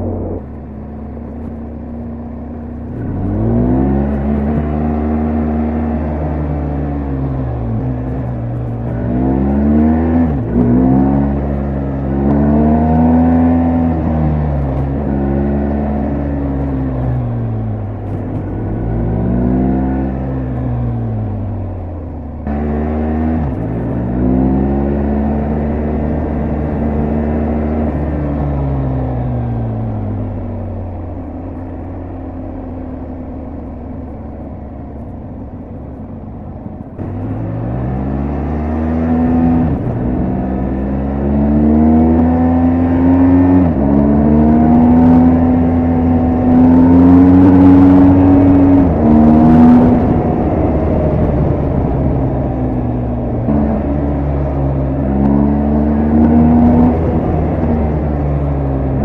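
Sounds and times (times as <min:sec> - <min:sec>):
motorcycle engine and exhaust: 0:00.0 - 0:59.0.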